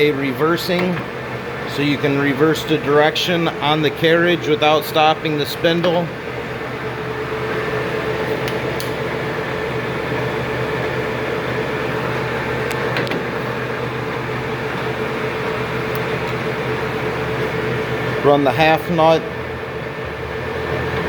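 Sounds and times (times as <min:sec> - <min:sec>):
lathe running: 0:00.0 - 0:21.0.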